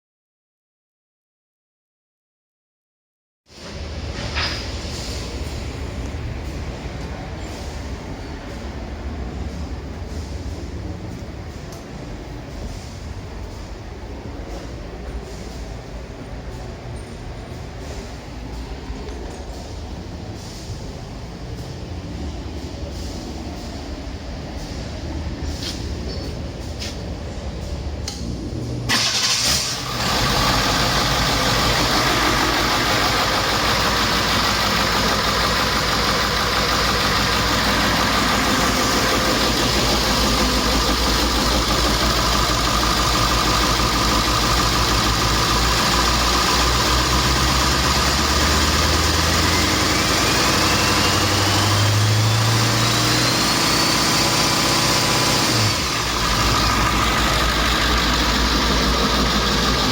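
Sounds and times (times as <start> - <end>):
diesel engine idling and revving: 3.5 - 59.9.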